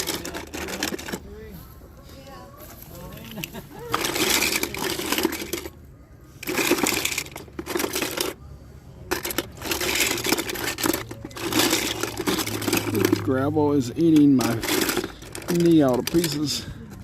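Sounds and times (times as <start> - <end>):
toy cars clinking and clattering: 0.0 - 1.4, 3.1 - 17.0.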